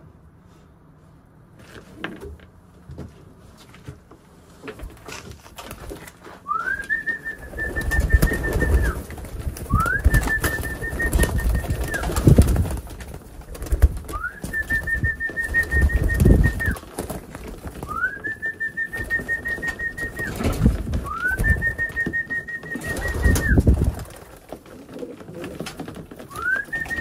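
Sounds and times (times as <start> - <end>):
wings flapping: 4.8 - 27.0.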